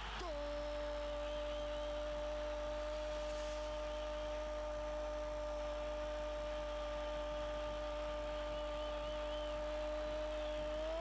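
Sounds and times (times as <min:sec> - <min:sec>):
constant hum: 0:00.0 - 0:11.0
steady hiss: 0:00.0 - 0:11.0.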